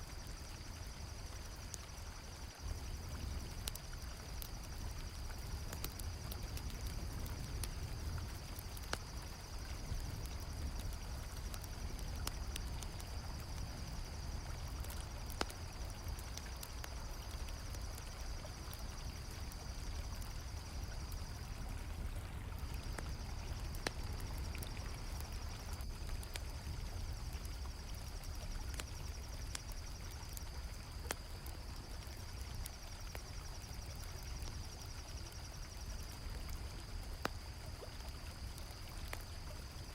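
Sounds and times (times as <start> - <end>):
campfire crackles: 0.0 - 39.9
crickets chirping: 0.0 - 39.9.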